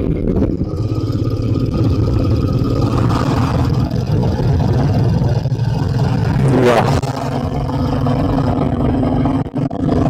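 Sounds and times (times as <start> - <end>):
motorcycle engine hum: 0.0 - 10.0
wind rumble on microphone: 0.0 - 10.0.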